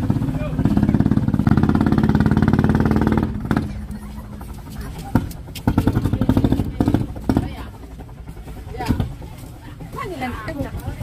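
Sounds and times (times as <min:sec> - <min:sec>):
small boat engine chugging: 0:00.0 - 0:11.0.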